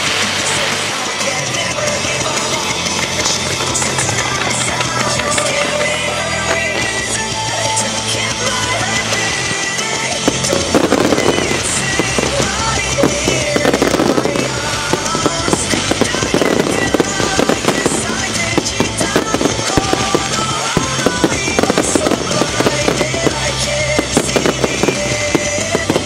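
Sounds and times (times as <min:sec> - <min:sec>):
fireworks cracking and banging: 0:00.0 - 0:26.0
music playing: 0:00.0 - 0:26.0.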